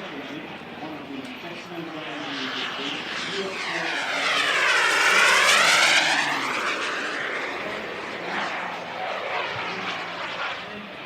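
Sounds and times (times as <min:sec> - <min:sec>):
model jet turbine passing: 0:00.0 - 0:11.0.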